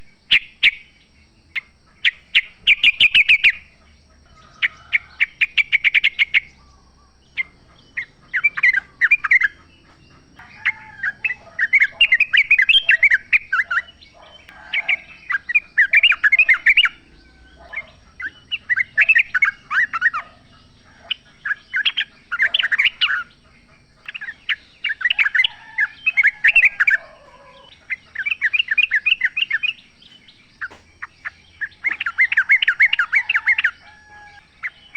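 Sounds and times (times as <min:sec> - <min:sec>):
bird singing chattering notes: 0:00.0 - 0:34.9.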